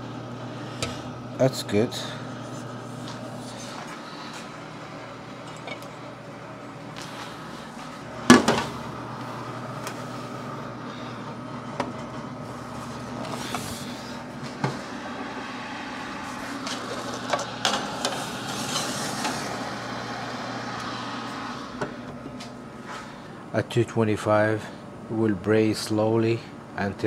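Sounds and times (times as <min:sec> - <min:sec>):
oven humming: 0:00.0 - 0:27.0.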